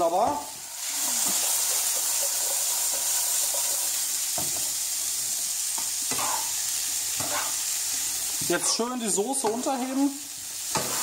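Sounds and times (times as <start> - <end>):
pods sizzling in oil: 0.0 - 11.0.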